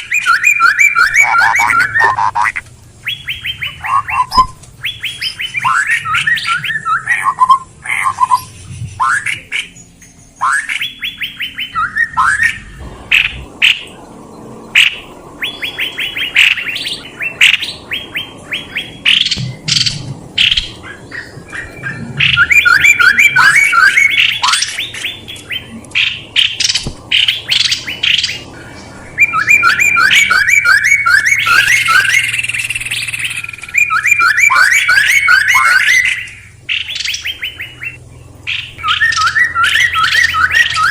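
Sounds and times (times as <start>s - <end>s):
songbird high chirps: 0.0s - 40.9s.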